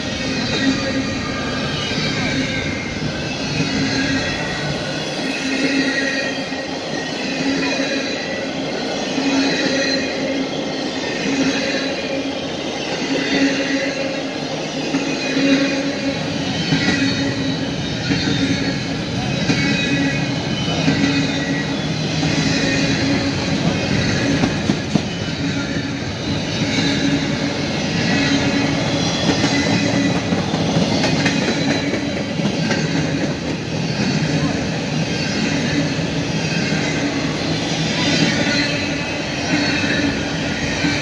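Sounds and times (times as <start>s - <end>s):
high wheel squeal: 0.0s - 41.0s
train wheels rumbling on rails: 0.0s - 41.0s.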